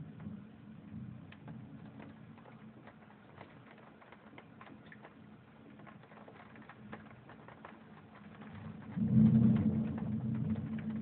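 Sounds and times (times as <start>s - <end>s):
raindrops pattering: 0.0s - 11.0s.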